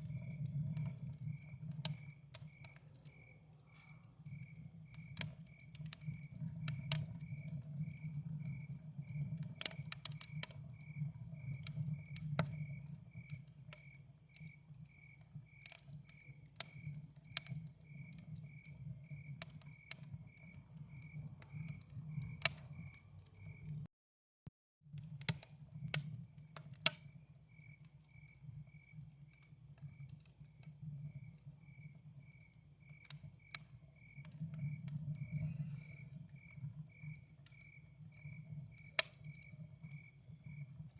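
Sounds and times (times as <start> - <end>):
campfire crackling and popping: 0.0 - 23.9, 24.9 - 40.9
cricket chirping: 0.0 - 23.9, 26.5 - 40.9.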